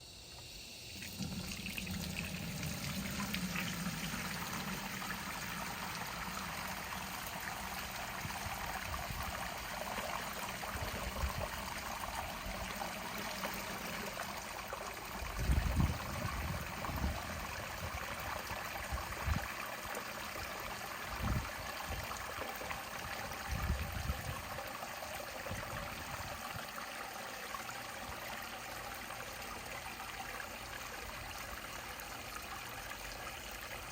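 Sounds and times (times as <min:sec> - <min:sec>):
water pouring through fabric: 0:00.8 - 0:28.3.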